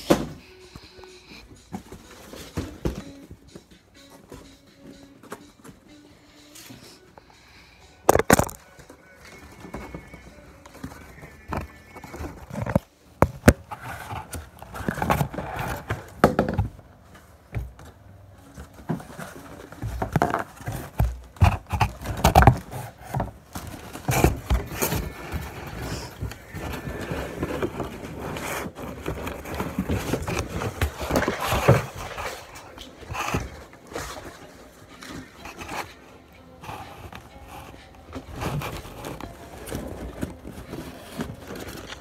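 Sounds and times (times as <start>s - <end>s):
objects knocking and scraping: 8.0s - 42.0s.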